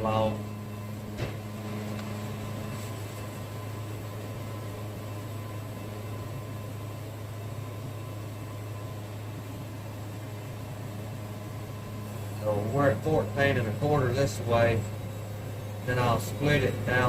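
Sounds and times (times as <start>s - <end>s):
band sawmill humming: 0.0s - 17.0s.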